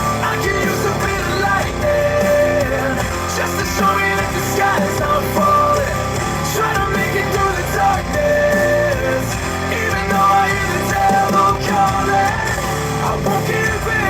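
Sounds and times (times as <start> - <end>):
rock song with singing: 0.0 - 14.0.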